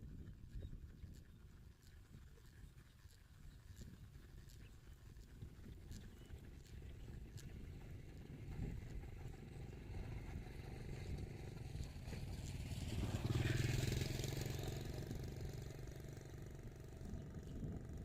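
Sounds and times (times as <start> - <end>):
motor engine running: 0.0 - 18.0.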